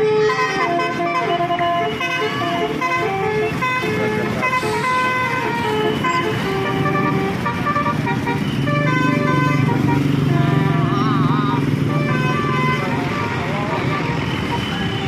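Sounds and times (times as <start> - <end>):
air horn trumpets playing melody: 0.0 - 11.3, 11.9 - 15.0.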